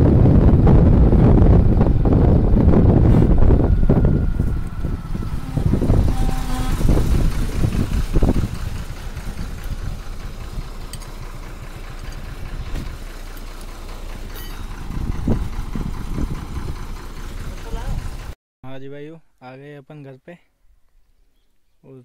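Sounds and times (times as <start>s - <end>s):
tractor engine idling: 0.1s - 18.4s.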